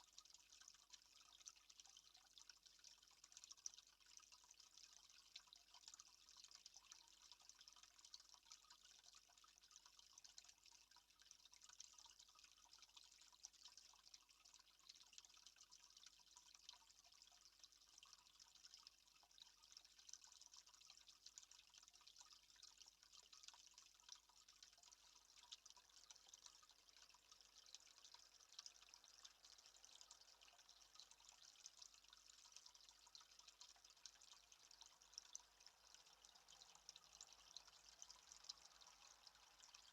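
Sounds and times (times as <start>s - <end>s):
water dripping ticks: 0.0s - 39.9s
water trickling: 0.0s - 39.9s.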